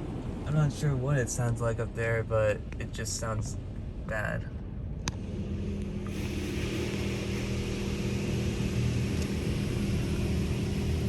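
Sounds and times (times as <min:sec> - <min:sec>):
car wash machinery droning: 0:00.0 - 0:11.0.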